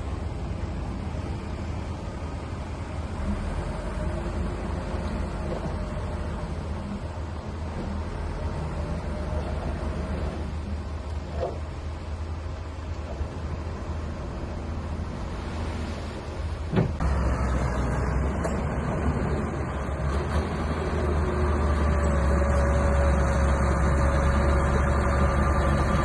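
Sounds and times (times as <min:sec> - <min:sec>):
diesel engine running: 0:00.0 - 0:15.8, 0:16.9 - 0:26.0.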